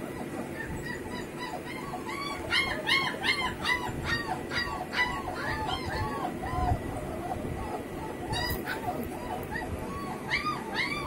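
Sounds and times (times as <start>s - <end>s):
puppy whining and whimpering: 0.0s - 11.0s.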